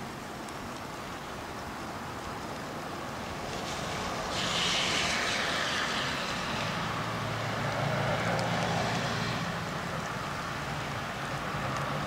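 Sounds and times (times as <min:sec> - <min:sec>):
traffic hiss: 0:00.0 - 0:12.0.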